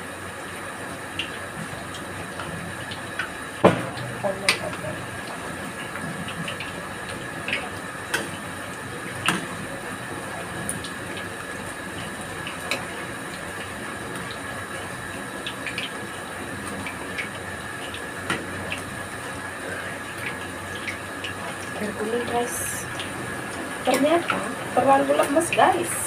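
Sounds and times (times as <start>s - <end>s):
oil sizzling while deep-frying: 0.0s - 26.0s.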